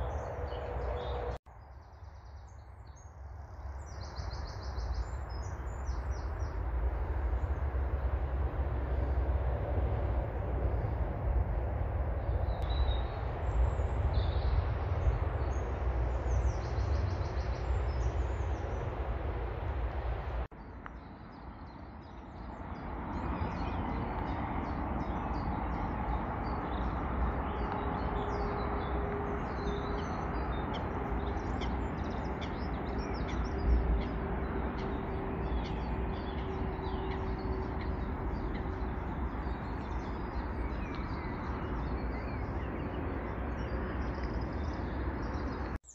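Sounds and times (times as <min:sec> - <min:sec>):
small birds singing and chirping: 0:00.0 - 0:06.6, 0:12.2 - 0:19.0, 0:20.5 - 0:45.9
steady outdoor hum: 0:00.0 - 0:45.9
wind rumbling on microphone: 0:00.0 - 0:45.9.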